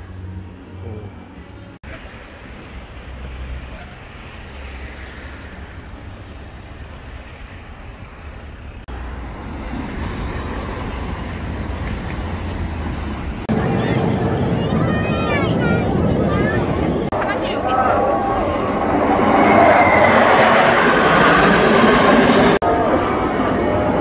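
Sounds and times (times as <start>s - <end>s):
road traffic passing: 0.0s - 24.0s
wind rumbling on microphone: 2.0s - 24.0s.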